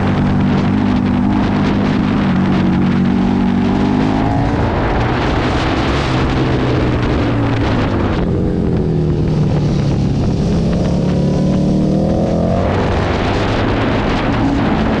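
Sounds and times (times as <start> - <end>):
motorcycle engine at speed: 0.0 - 15.0
wind rush on microphone: 0.0 - 15.0.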